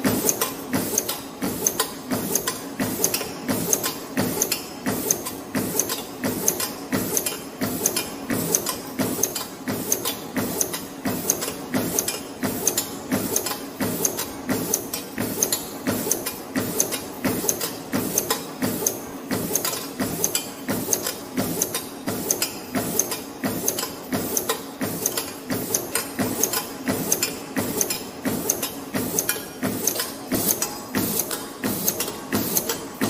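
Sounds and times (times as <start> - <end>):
mechanical hum: 0.0 - 33.0
wire forming machine clattering: 0.0 - 33.0.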